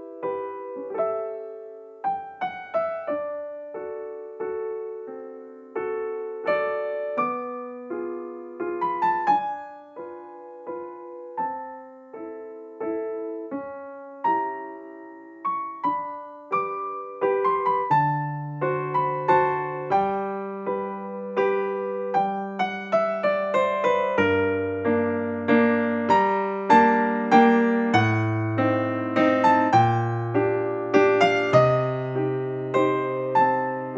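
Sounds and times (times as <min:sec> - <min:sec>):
solo piano music: 0:00.0 - 0:33.9.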